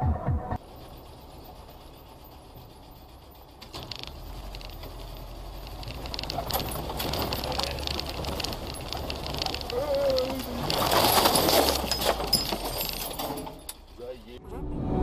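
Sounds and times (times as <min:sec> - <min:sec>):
car engine and tyre rumble: 0:00.0 - 0:15.0
car rattling on rough ground: 0:00.6 - 0:14.4.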